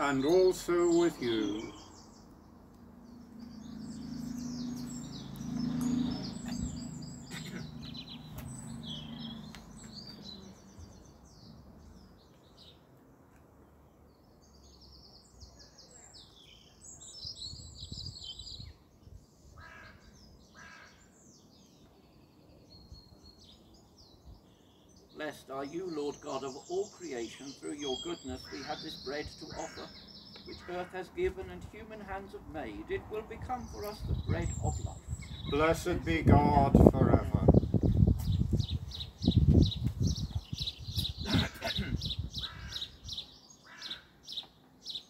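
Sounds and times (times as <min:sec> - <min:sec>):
birds chirping and trilling: 0:00.0 - 0:45.0.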